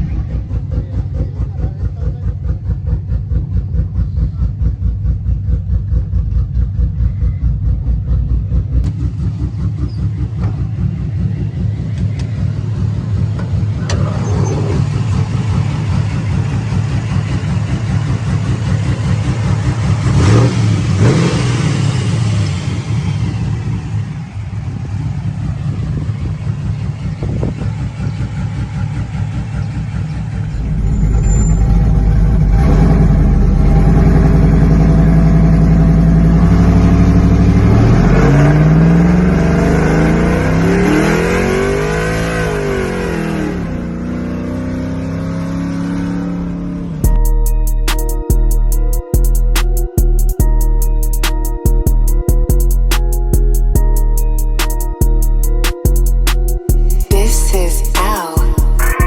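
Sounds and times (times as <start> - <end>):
car engine lumpy idle and revving: 0.0 - 59.0.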